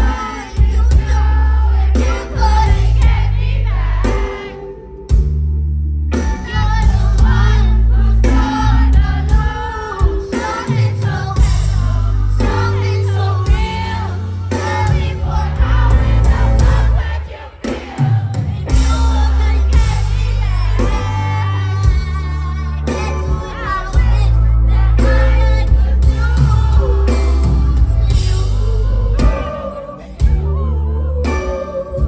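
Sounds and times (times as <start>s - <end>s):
backing track with heavy bass: 0.0s - 32.0s.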